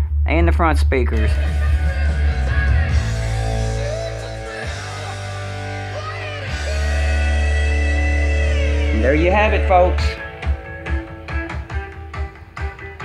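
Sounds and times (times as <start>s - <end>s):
heavy steady bass: 0.0s - 13.0s
radio music with guitar: 0.4s - 13.0s.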